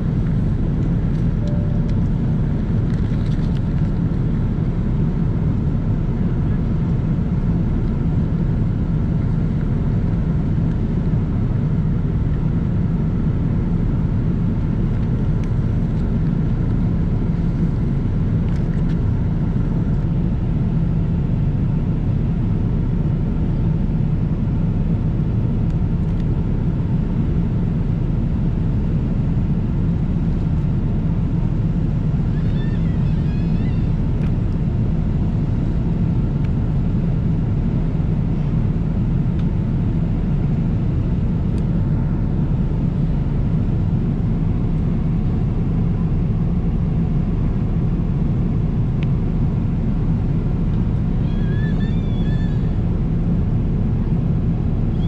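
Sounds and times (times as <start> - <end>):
airplane cabin low rumble: 0.0 - 55.0.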